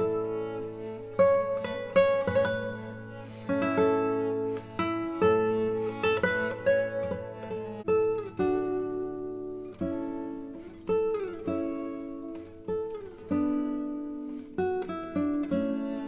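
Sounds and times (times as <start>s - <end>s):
plucked guitar slow tune: 0.0s - 16.0s.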